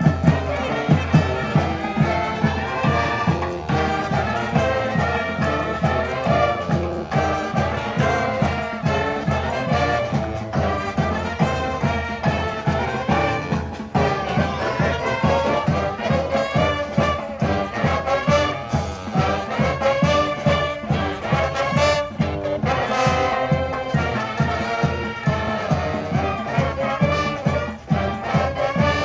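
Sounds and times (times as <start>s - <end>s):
brass horns playing a tune: 0.0s - 29.0s
steady drum beat: 0.0s - 29.0s.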